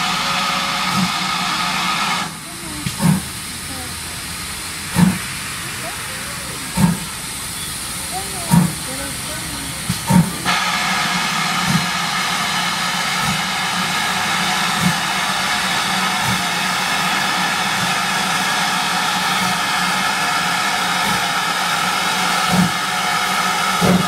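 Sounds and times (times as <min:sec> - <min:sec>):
steam hissing: 0:00.0 - 0:24.0
steam locomotive chuffing: 0:00.0 - 0:24.0.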